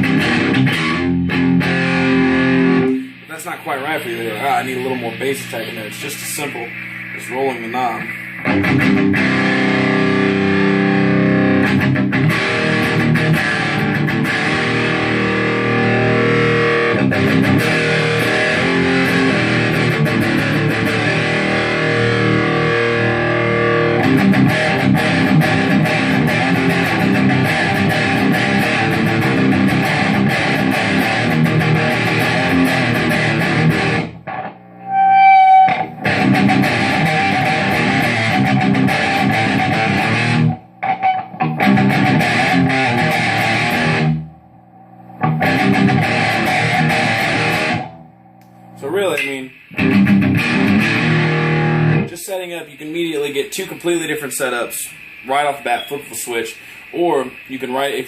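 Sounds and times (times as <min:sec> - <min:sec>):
sliding high guitar note: 0:00.0 - 0:52.1
electric guitar strumming chords: 0:00.0 - 0:52.2.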